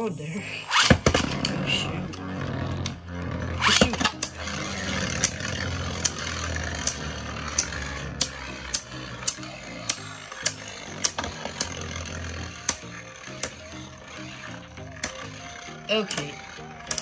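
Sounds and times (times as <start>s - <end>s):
spinning tops whirring: 0.0s - 17.0s.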